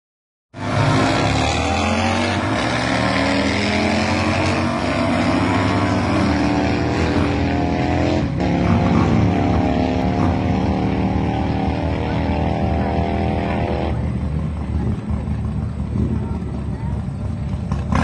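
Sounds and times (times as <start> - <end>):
race engines idling and revving: 0.5 - 18.0.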